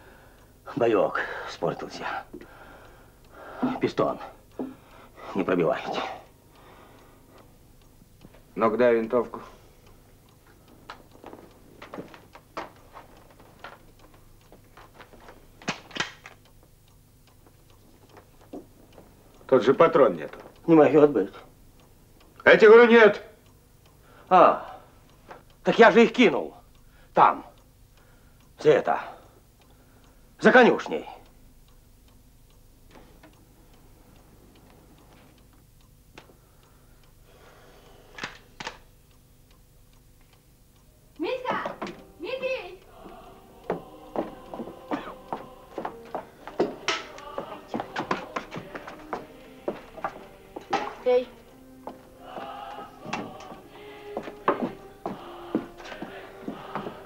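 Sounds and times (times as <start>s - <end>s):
faint steady ticking: 0.0s - 57.0s.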